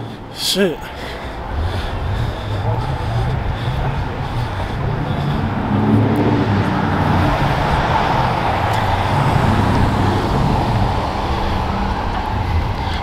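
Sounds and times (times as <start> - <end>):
cars driving by: 0.0 - 13.0.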